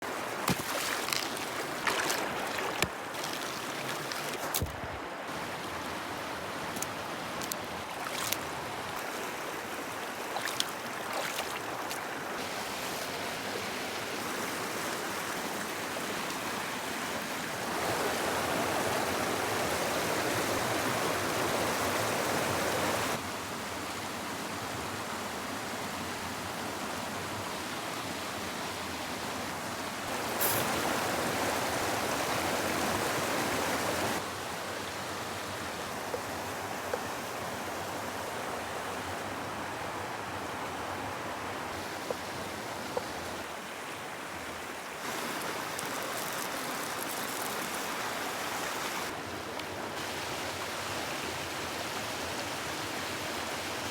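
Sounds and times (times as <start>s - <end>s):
running water flowing: 0.0s - 23.2s, 30.0s - 53.9s.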